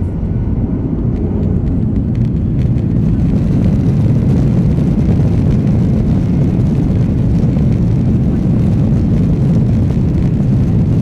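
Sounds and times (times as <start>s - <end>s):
jet engine and airframe noise: 0.0s - 11.0s.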